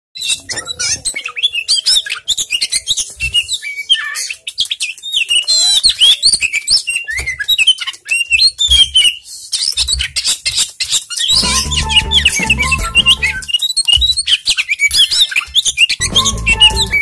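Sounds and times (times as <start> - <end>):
bird singing whistles and chirps: 0.2 - 17.0.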